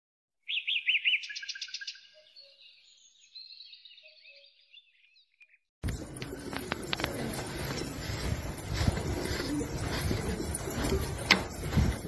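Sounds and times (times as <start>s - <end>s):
songbird chirping and trilling: 0.4s - 12.0s.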